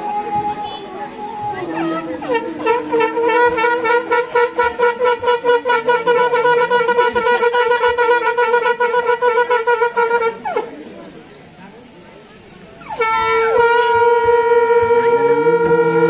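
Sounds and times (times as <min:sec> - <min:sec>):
conch shells blown: 0:00.0 - 0:10.8, 0:12.8 - 0:16.0.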